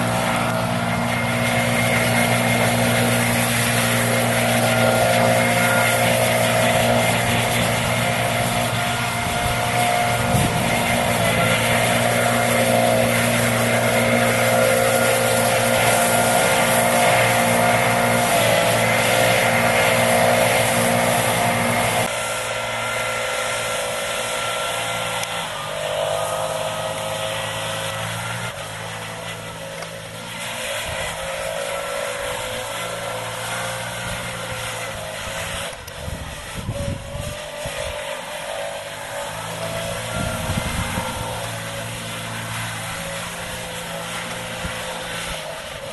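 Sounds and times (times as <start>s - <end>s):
leaf blower engine running: 0.0s - 45.9s.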